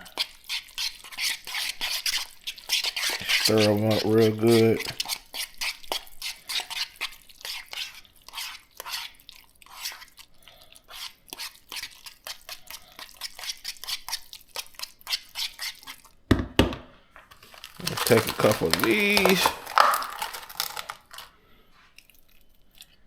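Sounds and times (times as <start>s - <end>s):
wet mixture stirred in a bowl: 0.0s - 16.3s, 17.1s - 23.0s.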